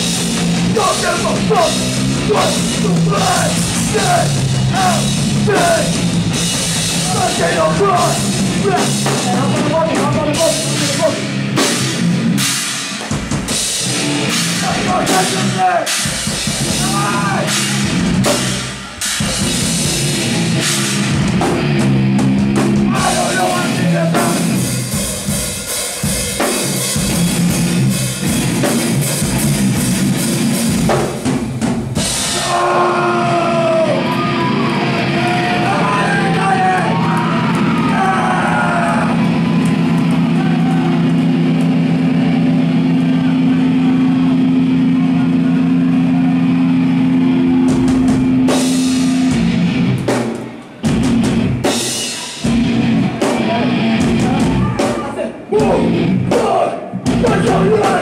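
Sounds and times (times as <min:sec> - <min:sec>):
distorted electric guitars: 0:00.0 - 0:58.0
hardcore band playing: 0:00.0 - 0:58.0
pounding drum kit: 0:00.0 - 0:58.0.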